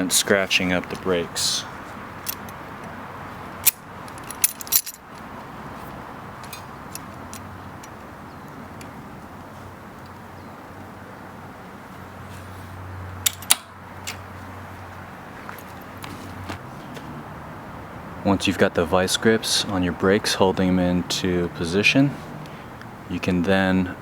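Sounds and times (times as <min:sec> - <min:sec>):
background noise: 0:00.0 - 0:24.0.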